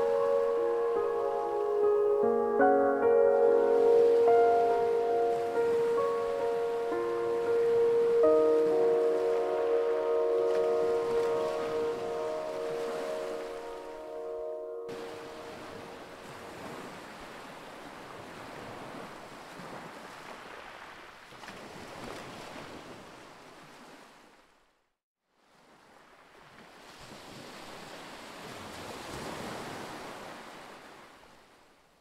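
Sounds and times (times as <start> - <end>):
sea waves washing on shore: 0.0 - 14.3, 14.9 - 24.2, 25.6 - 31.4
wind: 0.0 - 32.0.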